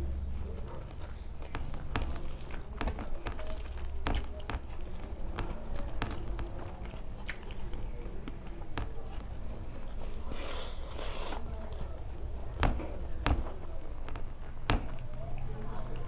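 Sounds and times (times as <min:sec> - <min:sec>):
chewing and wet mouth sounds: 0:00.0 - 0:16.0.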